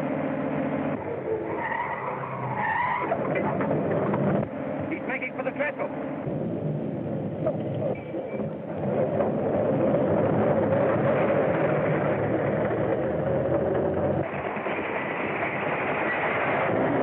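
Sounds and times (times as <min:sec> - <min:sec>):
motor vehicle rumble: 0:00.0 - 0:17.0
train rumbling: 0:02.6 - 0:17.0.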